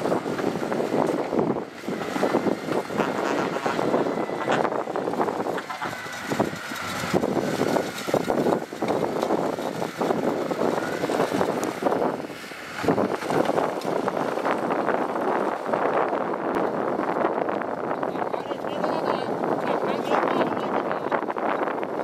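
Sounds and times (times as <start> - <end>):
heavy machinery engines under load: 0.0 - 22.0.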